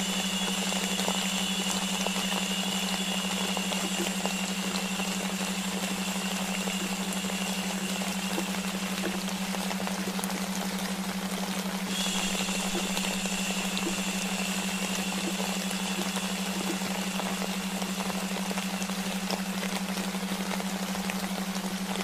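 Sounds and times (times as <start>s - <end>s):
rain-like white noise hiss: 0.0s - 22.0s
steady low hum: 0.0s - 22.0s.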